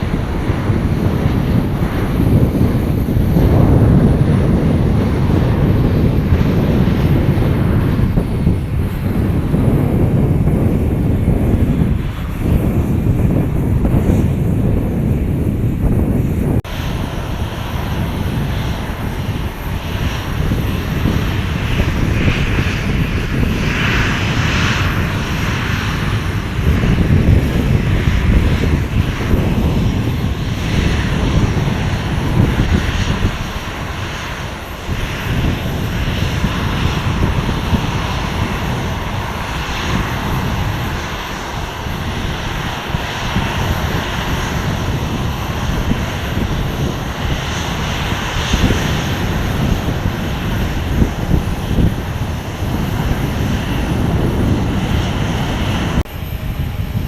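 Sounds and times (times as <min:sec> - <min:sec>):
airplane engine noise: 0:00.0 - 0:57.0.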